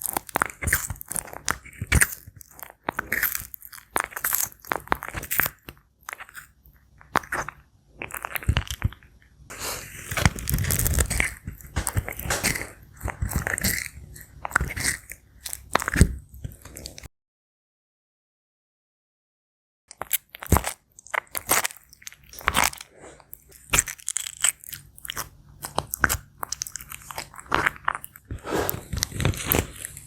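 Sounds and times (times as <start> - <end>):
tortoise crunching food: 0.0 - 17.1, 19.9 - 30.0.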